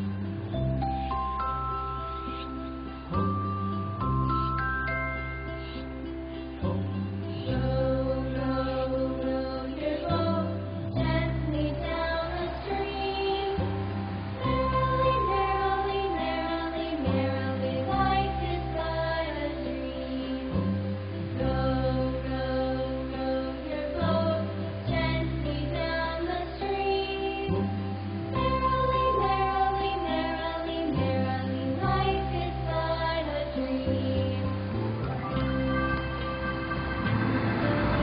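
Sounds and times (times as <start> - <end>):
slow music with sung melody: 0.0 - 38.0.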